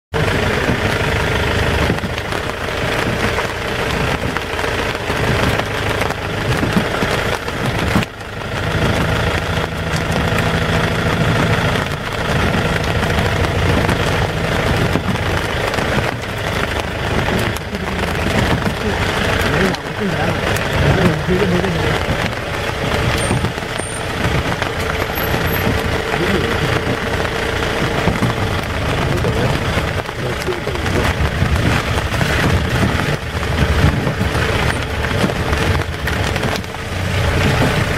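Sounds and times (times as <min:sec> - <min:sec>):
car engine idling: 0:00.1 - 0:37.9.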